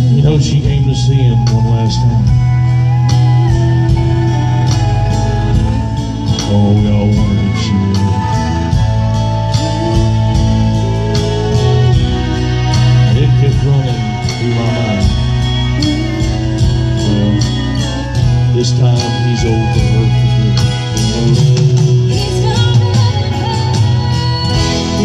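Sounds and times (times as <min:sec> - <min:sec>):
drums keeping a beat: 0:00.0 - 0:25.0
live country band playing: 0:00.0 - 0:25.0.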